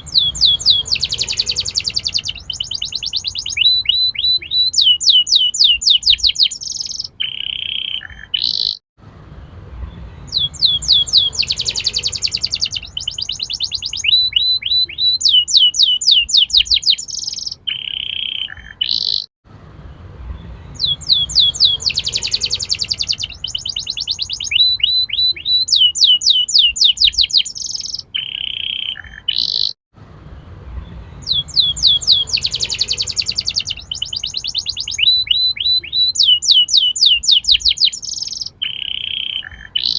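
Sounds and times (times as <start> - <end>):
canary singing trills: 0.0 - 8.8, 9.9 - 19.3, 20.3 - 29.8, 30.7 - 39.9.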